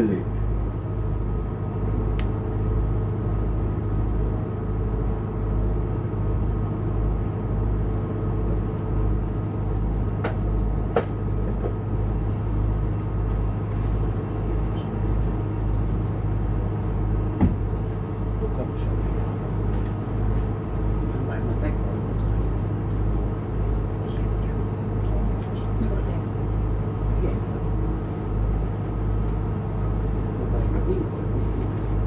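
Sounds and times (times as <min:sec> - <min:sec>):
boat engine throbbing hum: 0:00.0 - 0:32.0.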